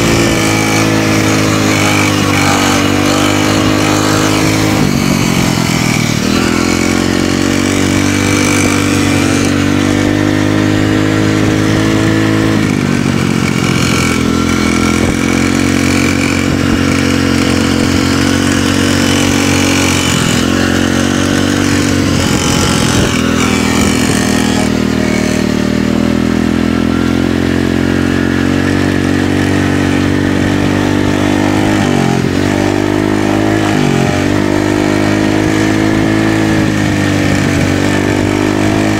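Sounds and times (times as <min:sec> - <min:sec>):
small motorcycle engine running hard: 0:00.0 - 0:38.9.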